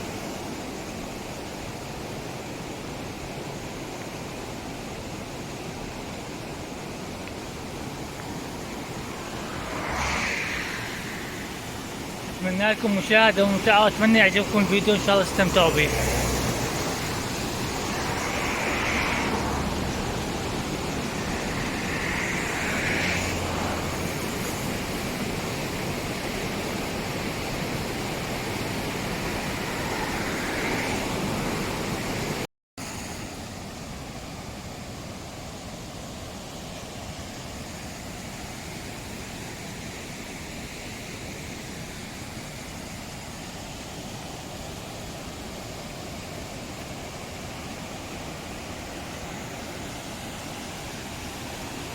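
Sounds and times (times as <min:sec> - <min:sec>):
waterfall and river rushing: 0:00.0 - 0:51.9.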